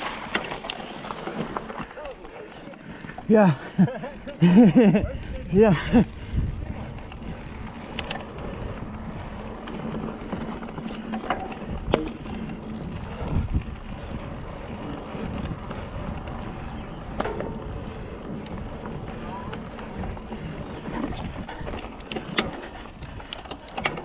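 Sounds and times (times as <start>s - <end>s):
bike tyre noise and rattle: 0.0s - 24.0s.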